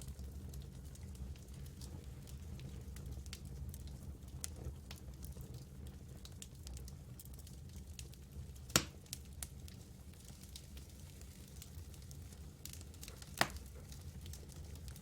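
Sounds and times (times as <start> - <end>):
campfire crackling: 0.1 - 15.0.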